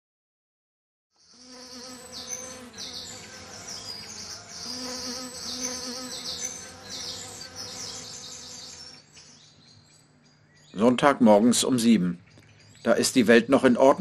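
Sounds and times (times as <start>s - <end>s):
birds chirping and trilling: 1.2s - 14.0s.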